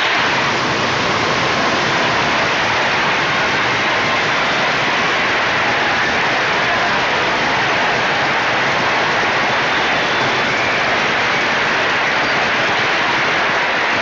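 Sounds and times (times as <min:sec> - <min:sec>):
white noise hiss: 0:00.0 - 0:14.0.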